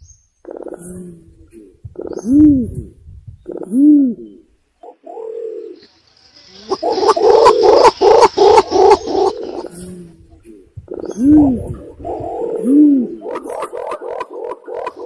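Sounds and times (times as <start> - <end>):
pigeon cooing: 0.4 - 5.8, 6.7 - 15.0.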